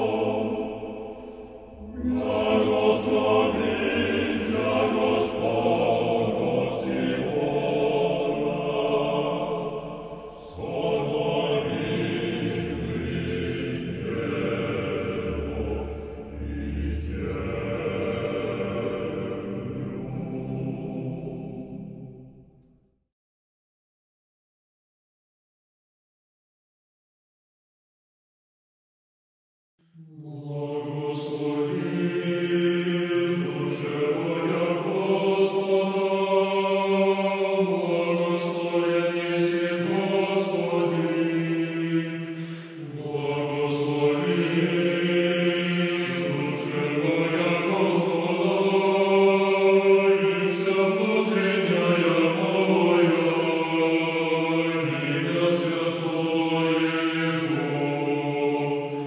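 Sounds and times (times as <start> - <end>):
choir chanting in harmony: 0.0 - 22.6, 30.0 - 59.0.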